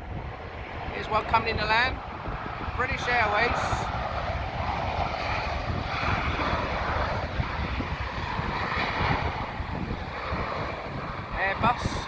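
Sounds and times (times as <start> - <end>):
airliner jet engines: 0.0 - 12.0.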